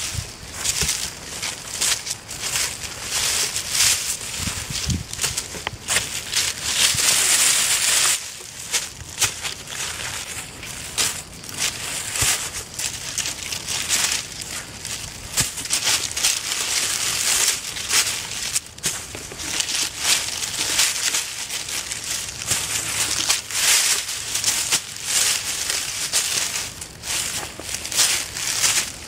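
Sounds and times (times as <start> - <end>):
dry vines rustling and crackling: 0.0 - 29.0
footsteps through plants: 0.0 - 29.0.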